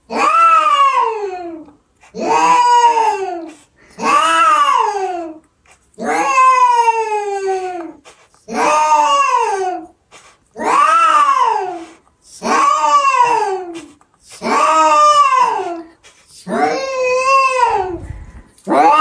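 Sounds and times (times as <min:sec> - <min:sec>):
cat yowling: 0:00.1 - 0:05.4, 0:06.0 - 0:10.0, 0:10.6 - 0:15.9, 0:16.5 - 0:18.1, 0:18.7 - 0:19.0.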